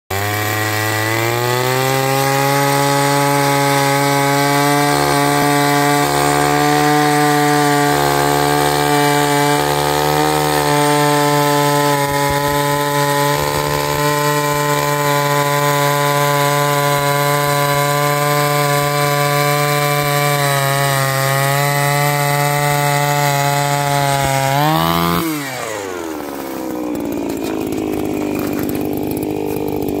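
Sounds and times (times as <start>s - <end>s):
ice auger engine running: 0.1s - 30.0s.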